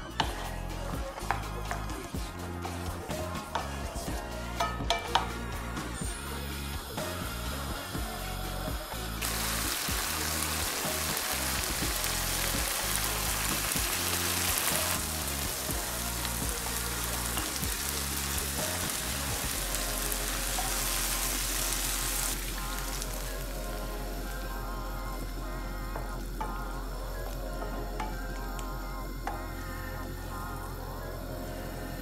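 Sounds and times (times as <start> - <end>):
background music: 0.0 - 32.0
food sizzling in a frying pan: 0.1 - 32.0.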